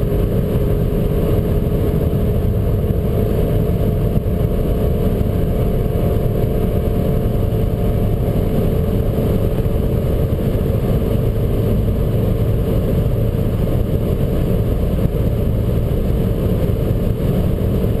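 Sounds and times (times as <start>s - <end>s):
car engine at high revs: 0.0s - 18.0s
wind and tyre noise: 0.0s - 18.0s.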